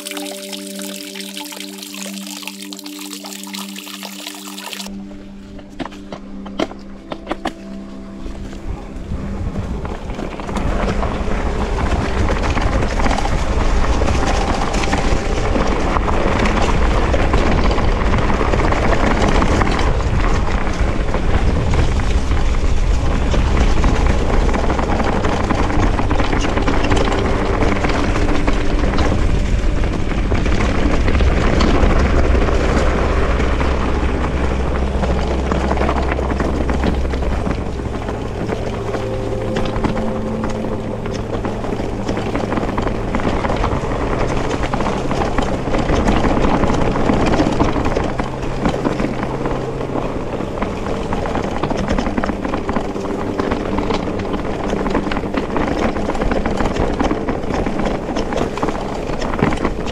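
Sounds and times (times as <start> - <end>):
wind rushing over microphone: 6.2 - 59.9.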